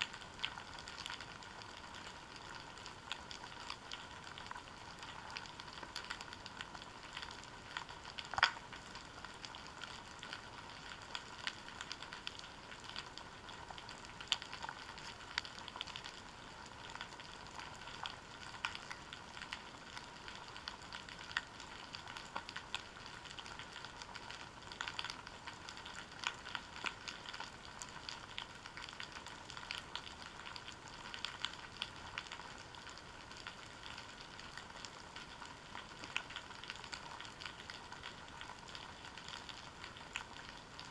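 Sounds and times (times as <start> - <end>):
underwater crackle of small clicks: 0.0 - 40.9.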